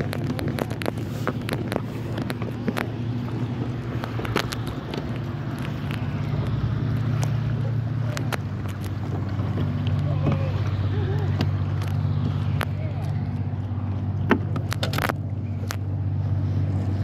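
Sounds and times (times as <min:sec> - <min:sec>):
low hum: 0:00.0 - 0:17.0
wind buffeting microphone: 0:00.0 - 0:17.0.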